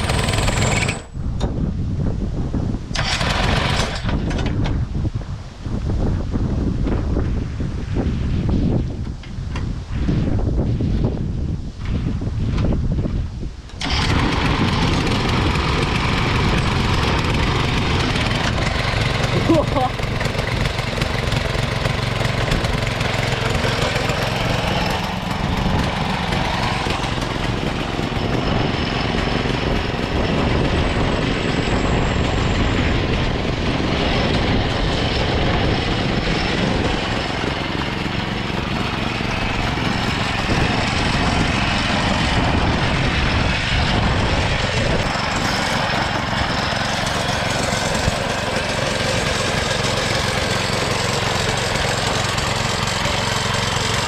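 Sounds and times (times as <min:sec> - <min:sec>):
small mower engine running: 0:00.0 - 0:01.2, 0:02.9 - 0:04.7, 0:13.7 - 0:54.0.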